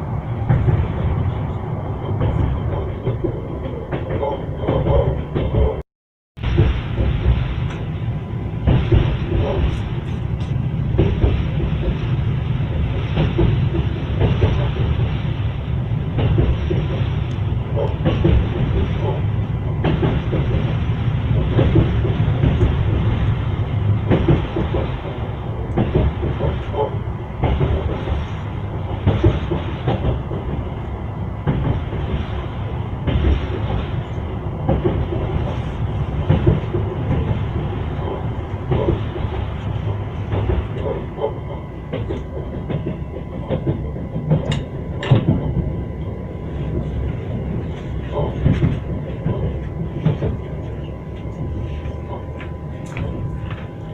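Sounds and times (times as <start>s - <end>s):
train wheels clattering over rails: 0.0s - 5.8s, 6.4s - 53.9s.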